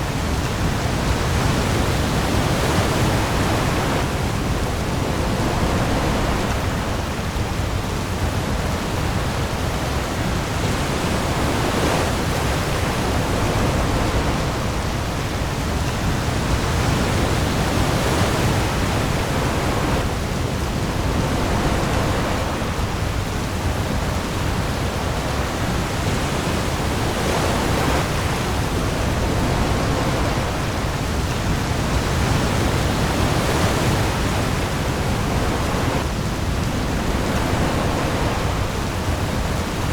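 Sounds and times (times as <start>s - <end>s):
heavy rain on the sea: 0.0s - 39.9s
waves: 0.0s - 39.9s.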